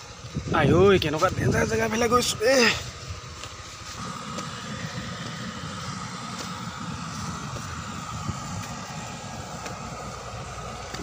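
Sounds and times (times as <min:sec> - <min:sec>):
faint steady whine: 0:00.0 - 0:11.0
low rumble of machinery: 0:00.0 - 0:11.0.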